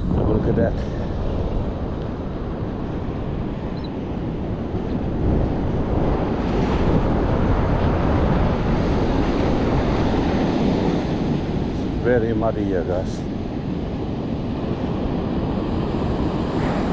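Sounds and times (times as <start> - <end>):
surf rushing: 0.0 - 16.9
wind buffeting microphone: 0.0 - 16.9.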